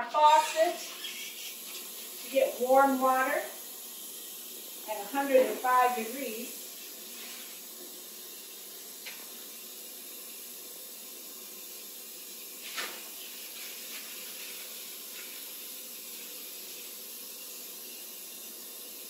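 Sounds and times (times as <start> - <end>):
tap water running into a basin: 0.0 - 19.0.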